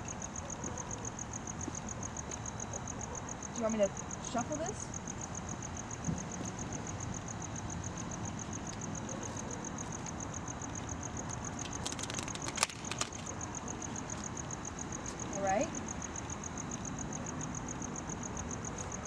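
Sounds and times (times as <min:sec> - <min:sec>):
distant traffic hum: 0:00.0 - 0:19.0.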